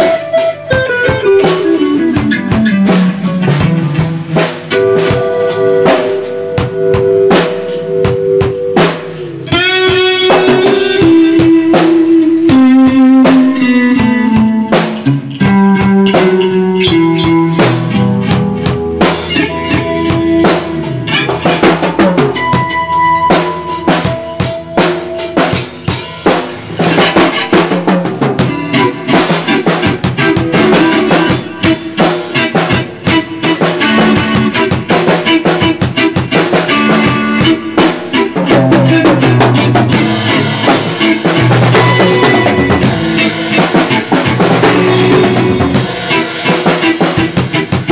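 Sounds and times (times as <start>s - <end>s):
drum kit: 0.0s - 47.9s
electric guitar playing: 0.0s - 47.9s.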